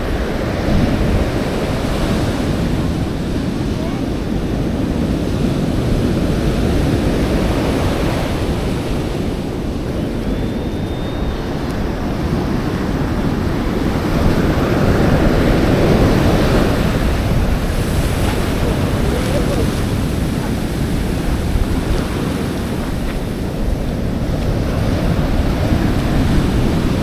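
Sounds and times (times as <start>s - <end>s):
surf washing on beach: 0.0s - 27.0s
wind buffeting microphone: 0.0s - 27.0s.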